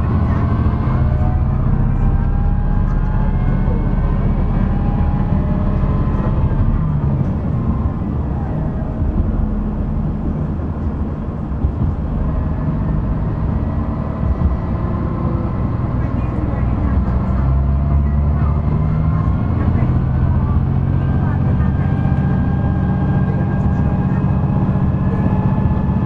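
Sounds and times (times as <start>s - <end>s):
diesel railcar engine drone: 0.0s - 26.0s
wheels rumbling on track: 0.0s - 26.0s.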